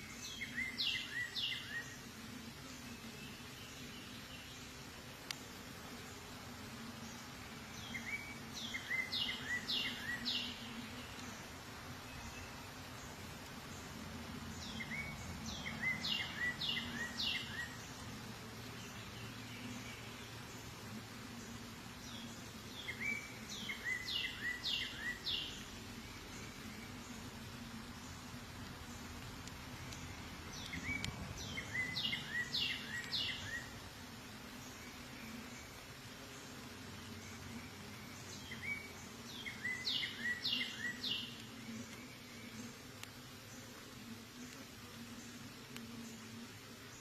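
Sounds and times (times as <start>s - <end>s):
honeybees humming: 0.0s - 47.0s
songbird singing: 0.0s - 47.0s.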